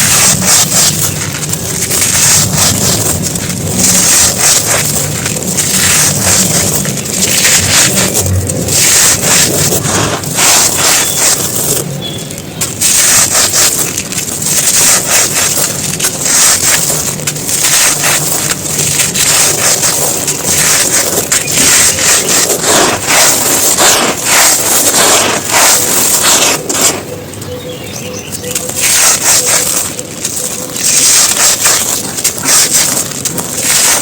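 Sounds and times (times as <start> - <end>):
dry chunks crunching: 0.0 - 34.0.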